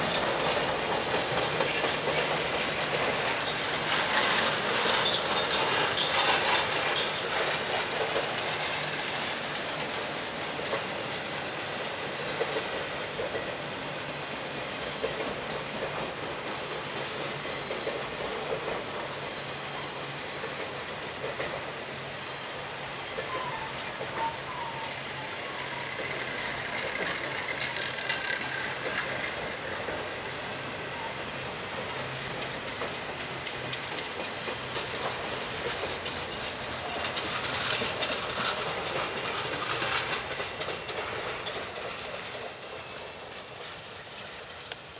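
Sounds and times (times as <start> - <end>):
train wheels rumbling on rails: 0.0 - 44.9
wheels clicking over rail joints: 0.0 - 44.9.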